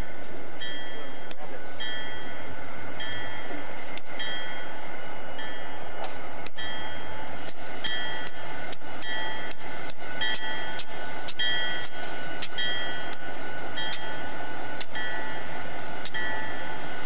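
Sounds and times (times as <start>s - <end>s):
diesel locomotives rolling past: 0.0s - 17.0s.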